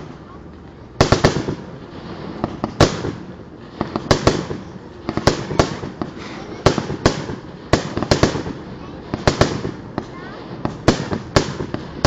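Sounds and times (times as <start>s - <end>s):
fireworks bangs: 0.0s - 12.0s
steady haze of sound: 0.0s - 12.0s.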